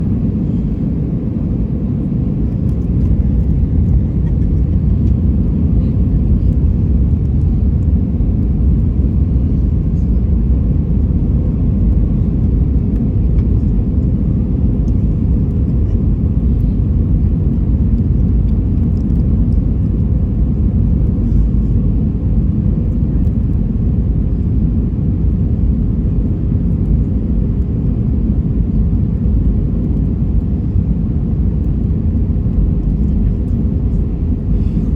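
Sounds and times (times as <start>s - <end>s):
airliner engine rumble: 0.0s - 34.9s.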